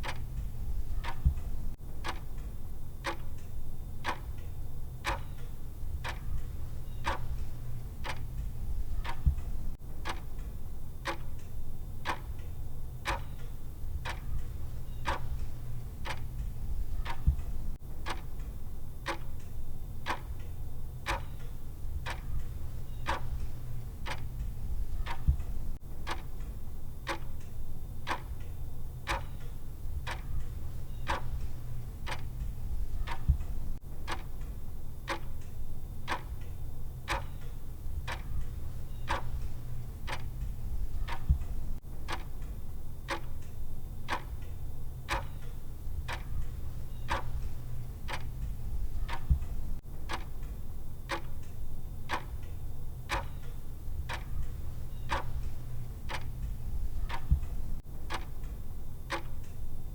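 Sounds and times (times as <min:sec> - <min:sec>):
clock ticking: 0:00.0 - 0:59.8.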